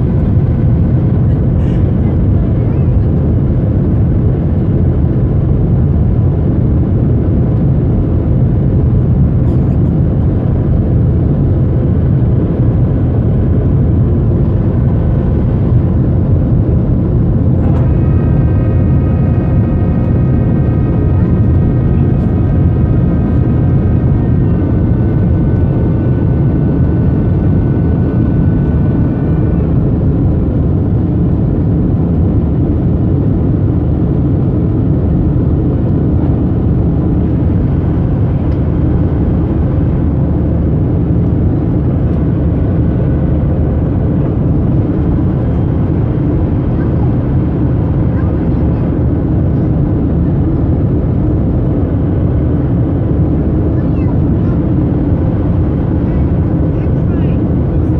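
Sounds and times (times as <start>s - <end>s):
jet engines roaring: 0.0s - 57.9s
multi-tone high whine: 0.0s - 57.9s.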